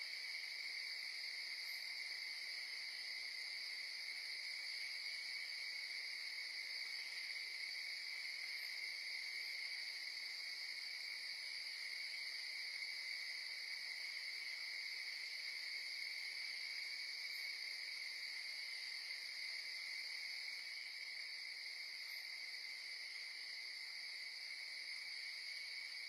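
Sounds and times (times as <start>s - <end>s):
night insects chorus: 0.0s - 26.0s.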